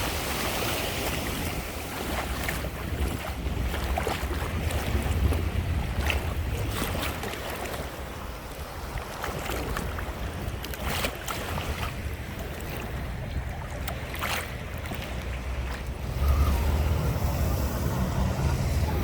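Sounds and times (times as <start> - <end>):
sea waves washing: 0.0 - 19.0
wind buffeting microphone: 0.0 - 19.0.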